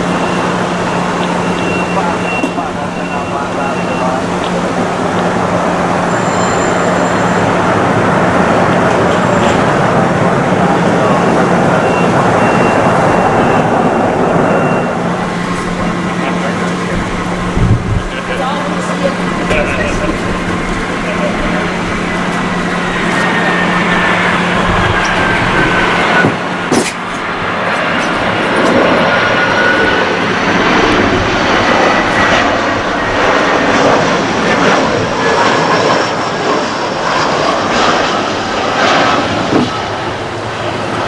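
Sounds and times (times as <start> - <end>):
jet engines passing close: 0.0 - 41.0.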